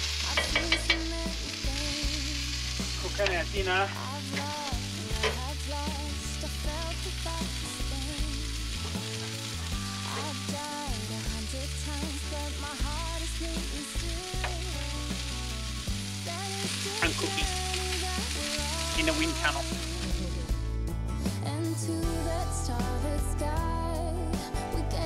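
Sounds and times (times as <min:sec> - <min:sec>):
gas stove sizzling hiss: 0:00.0 - 0:20.6
background music: 0:00.0 - 0:25.0.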